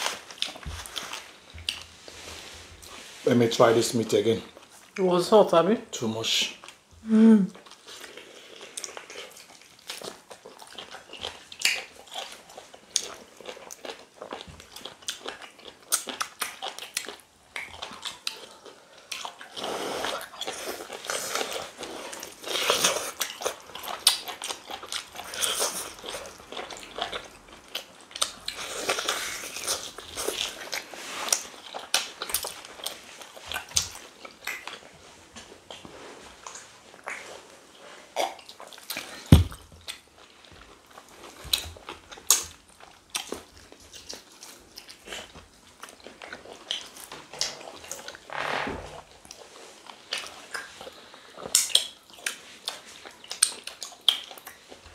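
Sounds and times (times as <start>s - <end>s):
people chewing and lip-smacking: 0.0s - 1.9s, 6.6s - 48.2s, 49.2s - 54.9s.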